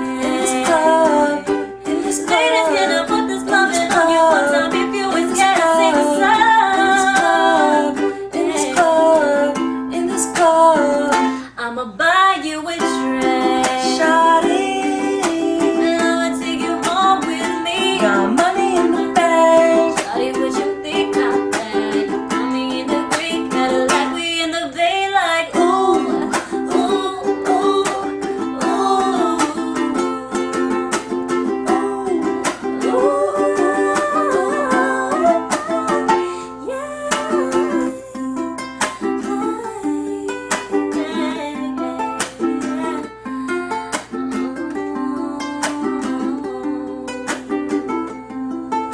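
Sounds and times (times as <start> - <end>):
person singing: 0.0 - 48.9
ukulele strumming: 0.0 - 48.9.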